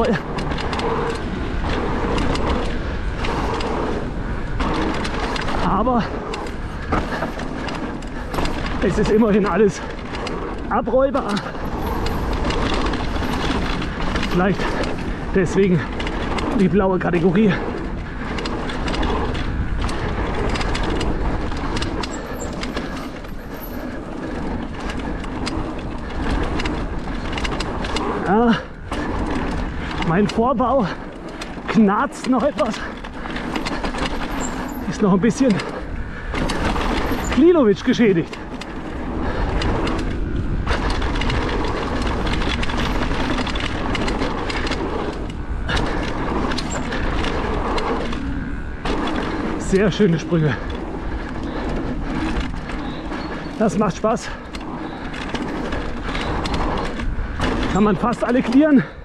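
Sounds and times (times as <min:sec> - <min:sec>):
bike clicks and rattles: 0:00.0 - 0:59.0
tyre and wind rumble: 0:00.0 - 0:59.0.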